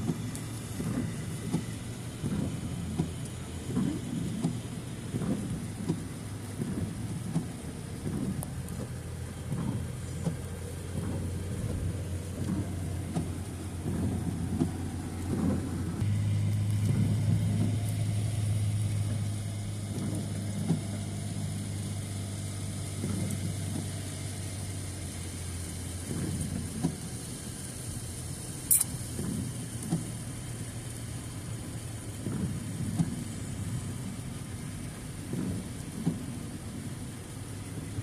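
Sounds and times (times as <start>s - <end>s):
car engine and road drone: 0.0s - 38.0s
rain: 0.0s - 38.0s.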